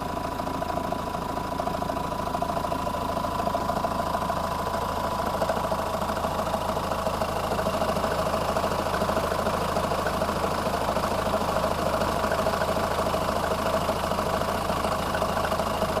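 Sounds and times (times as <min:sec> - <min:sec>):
diesel engine idling with rattle: 0:00.0 - 0:16.0.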